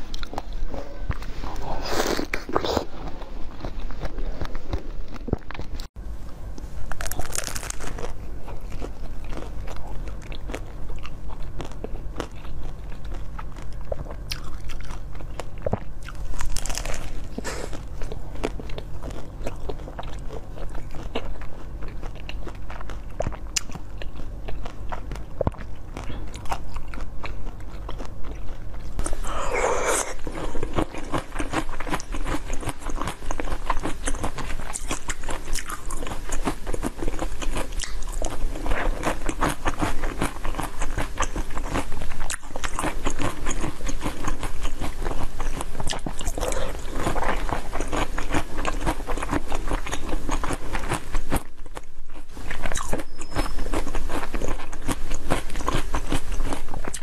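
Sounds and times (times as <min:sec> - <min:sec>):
biting and chewing jelly: 0:00.0 - 0:06.0, 0:06.8 - 0:57.0.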